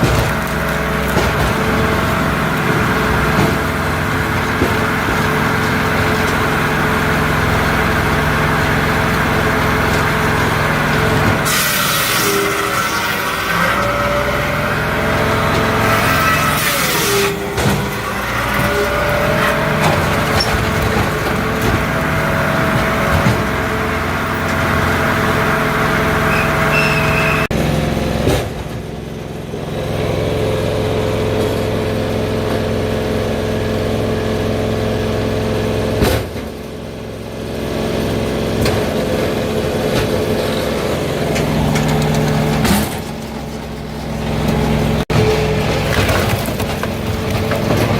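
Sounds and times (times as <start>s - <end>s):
diesel engine droning: 0.0s - 47.9s.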